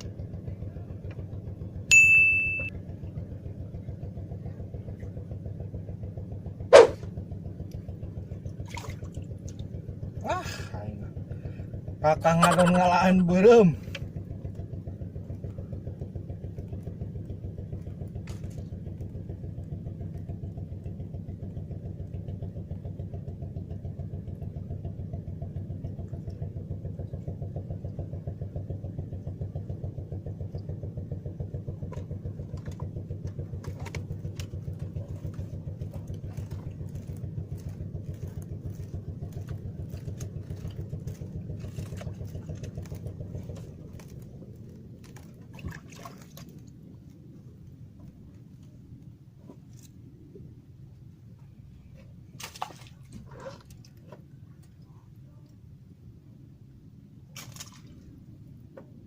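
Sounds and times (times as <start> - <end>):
motor engine chugging: 0.0 - 59.0.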